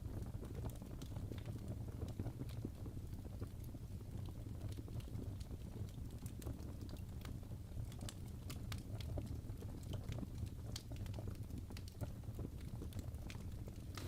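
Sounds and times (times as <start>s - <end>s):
fire popping and snapping: 0.0s - 14.0s
fire rumbling: 0.0s - 14.0s.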